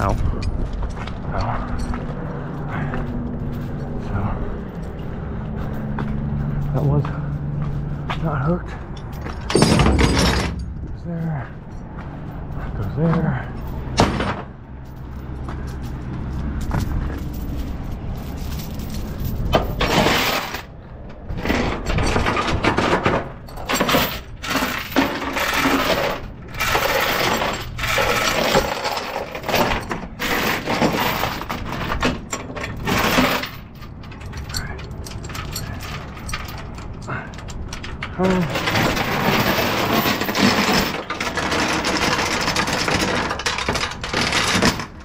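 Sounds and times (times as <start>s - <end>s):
chain clanking on metal deck: 8.7s - 45.0s.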